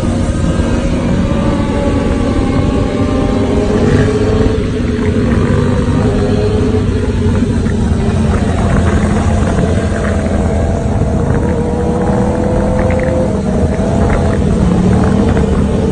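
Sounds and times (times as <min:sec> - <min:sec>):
dense low rumble: 0:00.0 - 0:15.9
motorcycle engine running: 0:00.0 - 0:15.9.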